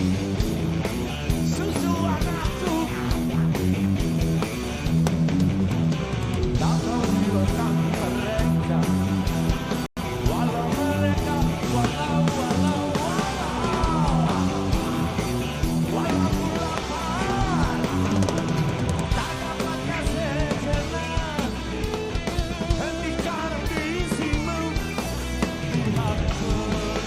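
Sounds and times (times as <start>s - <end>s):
rock song with guitar and vocals: 0.0s - 27.0s.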